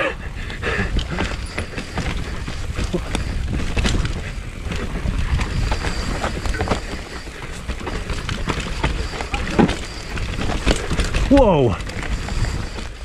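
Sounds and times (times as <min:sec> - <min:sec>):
bike clicks and rattles: 0:00.0 - 0:13.0
tyres rumbling on trail: 0:00.0 - 0:13.0
wind on microphone: 0:00.0 - 0:13.0.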